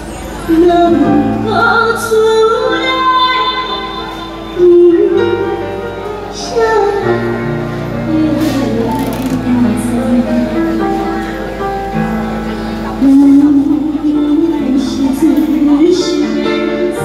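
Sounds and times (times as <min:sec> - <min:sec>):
girl singing into microphone: 0:00.4 - 0:10.8, 0:13.0 - 0:17.0
instrumental accompaniment: 0:00.5 - 0:17.0.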